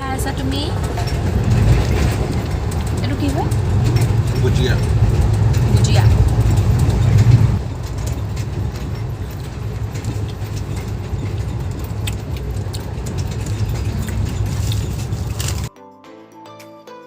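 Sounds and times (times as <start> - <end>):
light clicks and rattles: 0.0 - 15.7
train rumbling inside coach: 0.0 - 15.7.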